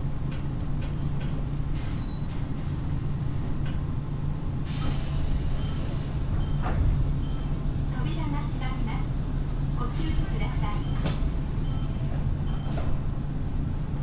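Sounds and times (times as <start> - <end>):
low train hum: 0.0 - 14.0.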